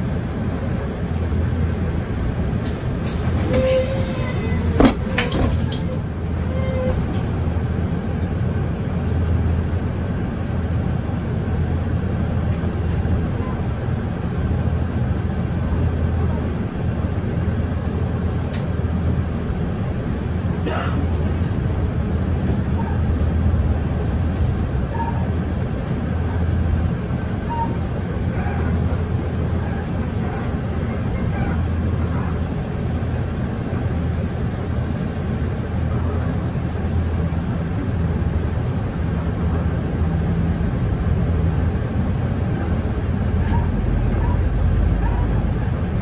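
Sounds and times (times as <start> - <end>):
bus engine rumble: 0.0 - 46.0.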